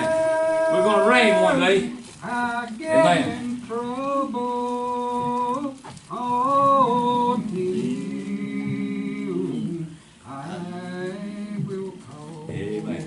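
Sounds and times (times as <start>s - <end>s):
person singing a hymn: 0.0s - 13.0s.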